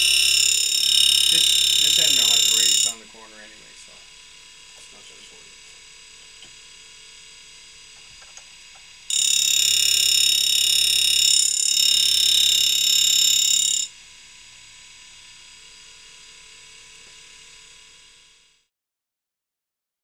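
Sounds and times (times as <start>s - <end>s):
grinder motor humming: 0.0s - 18.6s
grinding wheel whine: 0.0s - 18.7s.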